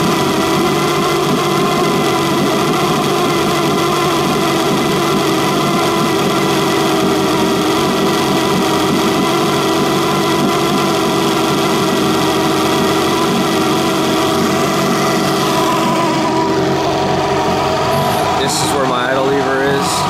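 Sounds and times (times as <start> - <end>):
outboard engine running: 0.0 - 20.0.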